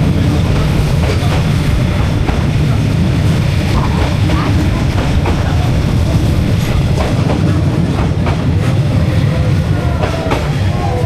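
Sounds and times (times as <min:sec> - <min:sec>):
train rumbling past: 0:00.0 - 0:11.0
wheels clicking over rail joints: 0:00.0 - 0:11.0.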